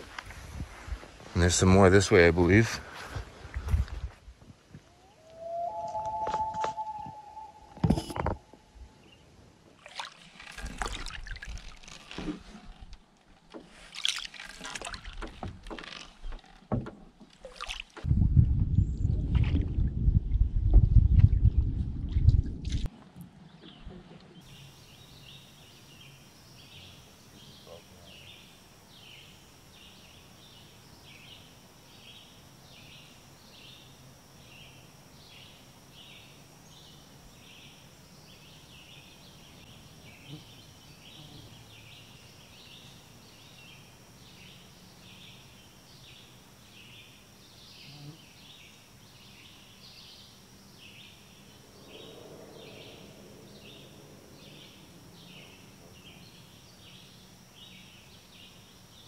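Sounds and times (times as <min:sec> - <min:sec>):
faint steady high whine: 0:00.0 - 0:18.3, 0:24.3 - 0:59.0.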